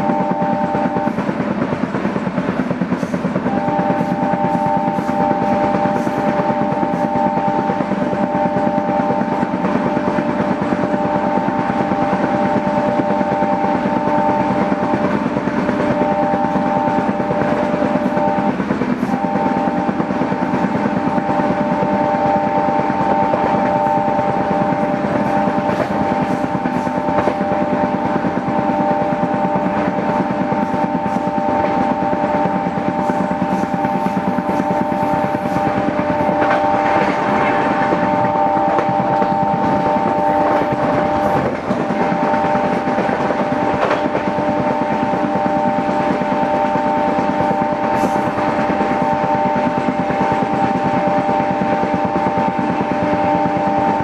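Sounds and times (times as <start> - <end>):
high steady whine: 0.0 - 54.0
train coach rumbling on track: 0.0 - 54.0.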